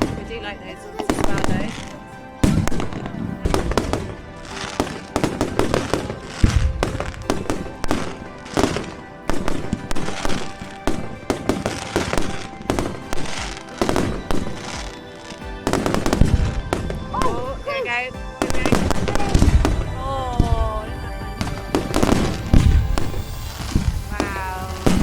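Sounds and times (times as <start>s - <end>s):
fireworks bangs and crackling: 0.0s - 25.0s
music playing: 0.0s - 25.0s.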